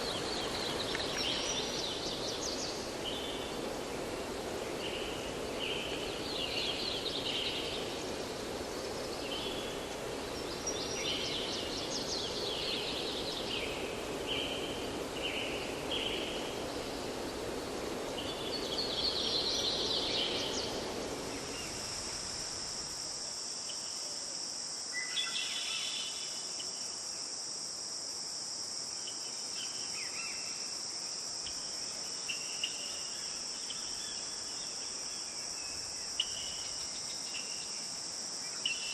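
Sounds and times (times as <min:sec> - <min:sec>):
crickets trilling: 0:00.0 - 0:38.9
steady hiss: 0:00.0 - 0:38.9.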